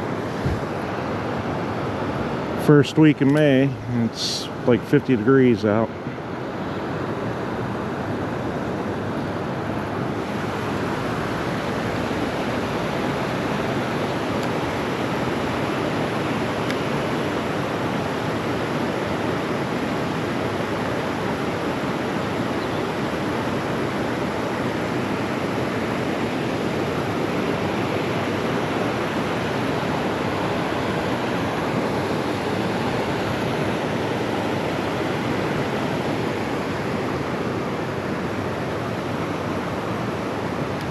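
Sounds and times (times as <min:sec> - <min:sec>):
creek water rushing: 0:00.0 - 0:40.9.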